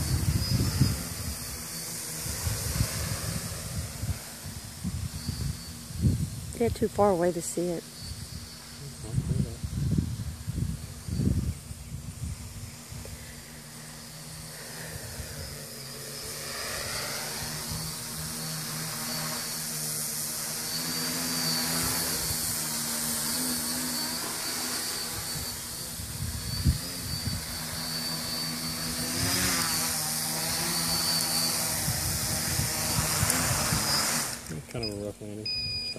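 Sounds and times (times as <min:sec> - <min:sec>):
drone propellers buzzing: 0:00.0 - 0:35.9.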